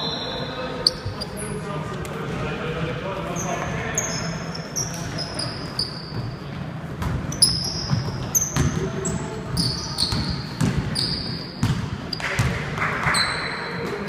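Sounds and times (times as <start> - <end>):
sneaker squeaks: 0.0 - 1.6, 3.4 - 14.0.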